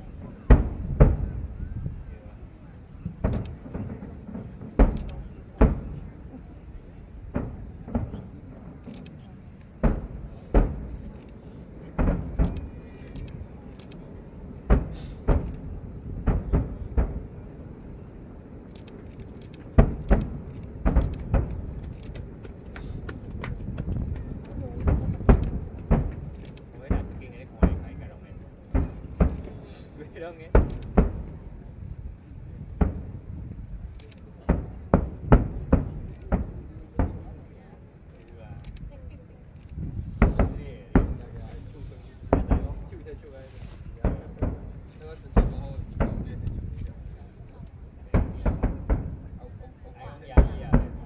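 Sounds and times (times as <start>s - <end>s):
faint fireworks crackle: 0.0s - 51.0s
fireworks booming: 0.0s - 51.0s.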